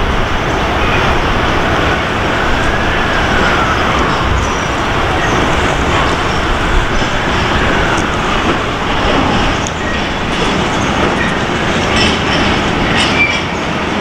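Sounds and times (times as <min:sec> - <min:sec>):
freight train rumbling: 0:00.0 - 0:14.0
road traffic: 0:00.0 - 0:14.0.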